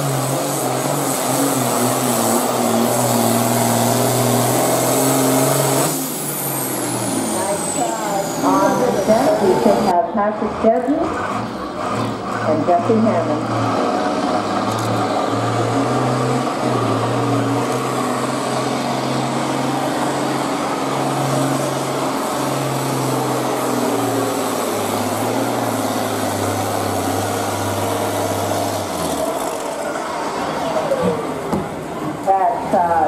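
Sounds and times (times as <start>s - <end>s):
tractor diesel engine at full throttle: 0.0s - 33.0s.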